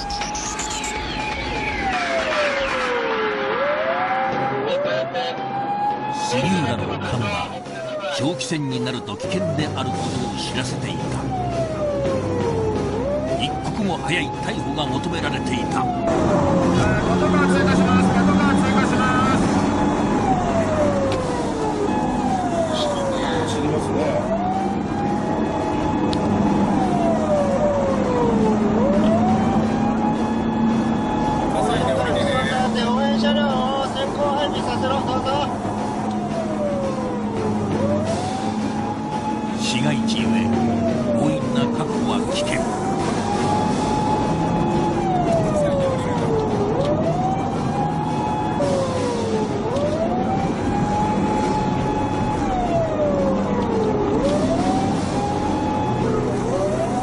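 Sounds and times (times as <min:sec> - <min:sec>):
police siren wailing: 0:00.0 - 0:57.0
engine and road hum: 0:09.1 - 0:14.4, 0:15.5 - 0:57.0.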